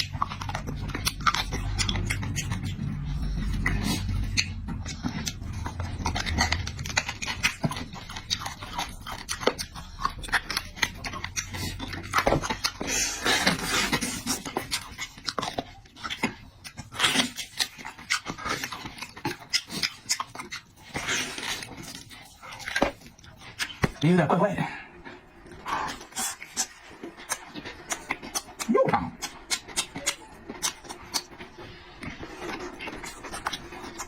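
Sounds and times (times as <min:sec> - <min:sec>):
wet chewing and smacking: 0:00.0 - 0:34.0.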